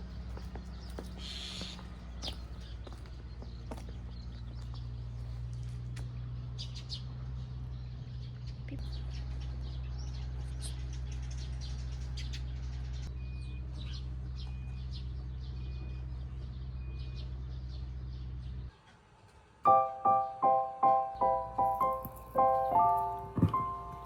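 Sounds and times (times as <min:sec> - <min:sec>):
birds chirping: 0:00.0 - 0:18.9, 0:19.7 - 0:24.0.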